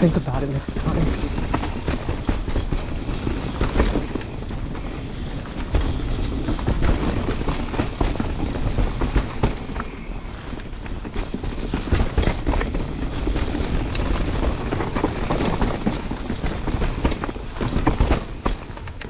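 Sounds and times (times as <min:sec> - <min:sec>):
bike knocking and rattling: 0:00.0 - 0:19.0
tyres rumbling on dirt: 0:00.0 - 0:19.0.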